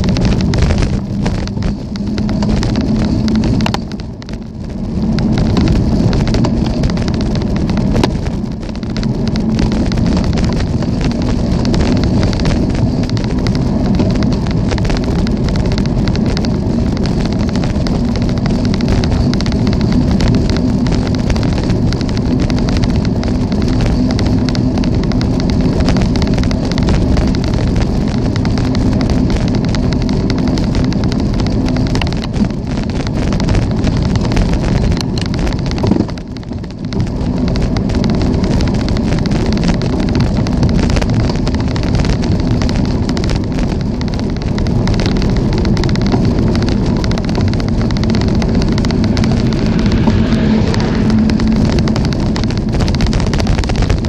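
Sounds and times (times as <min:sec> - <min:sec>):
low steady hum: 0:00.0 - 0:37.0, 0:43.6 - 0:54.0
bicycle road noise: 0:00.0 - 0:54.0
wind on microphone: 0:00.0 - 0:54.0.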